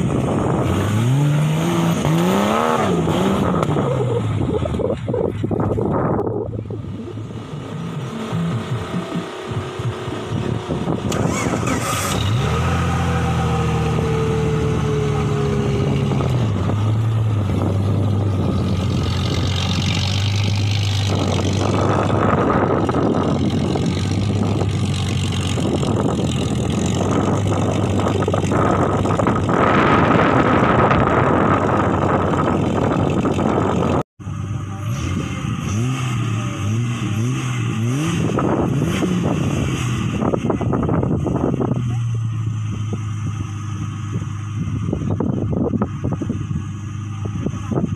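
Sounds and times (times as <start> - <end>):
buggy engine revving: 0.0 - 47.9.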